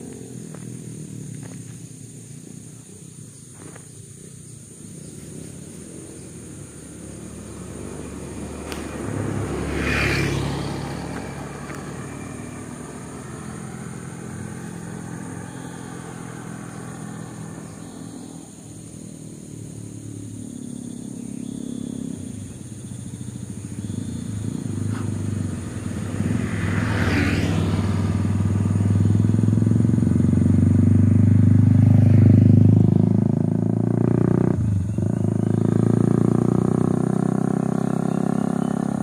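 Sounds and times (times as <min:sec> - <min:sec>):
engine humming: 0:00.0 - 0:39.0.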